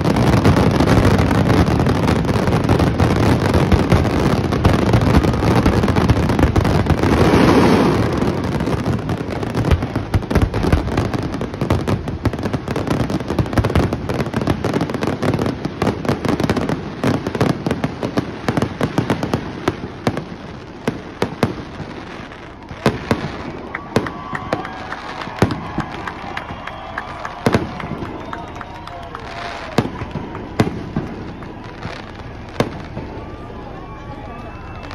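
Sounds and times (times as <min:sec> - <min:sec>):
fireworks booms: 0:00.0 - 0:34.9
fireworks bursts and crackle: 0:00.0 - 0:34.9.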